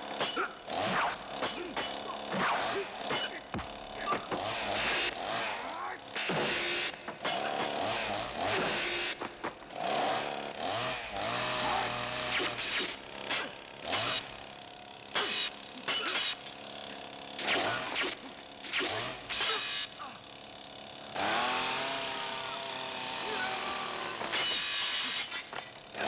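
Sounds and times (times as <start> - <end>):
chainsaws revving: 0.0 - 26.0.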